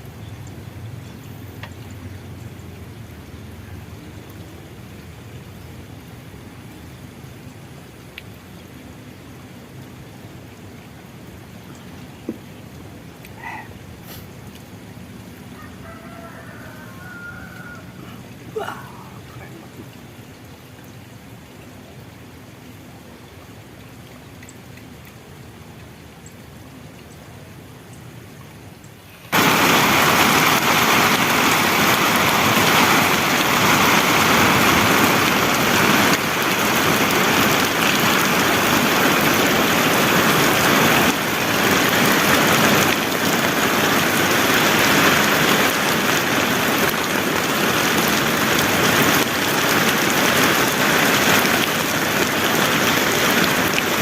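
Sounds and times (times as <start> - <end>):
heavy rain falling: 0.0 - 20.5, 29.3 - 54.0.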